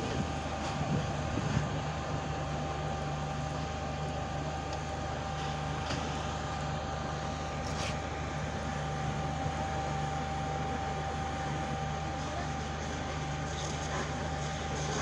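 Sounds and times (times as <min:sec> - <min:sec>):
fire engine pump droning: 0:00.0 - 0:15.0.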